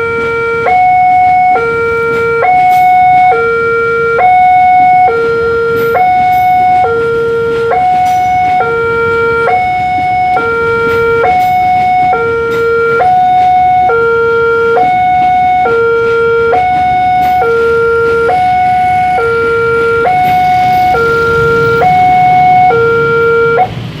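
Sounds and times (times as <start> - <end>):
two-tone warning siren: 0.0 - 24.0.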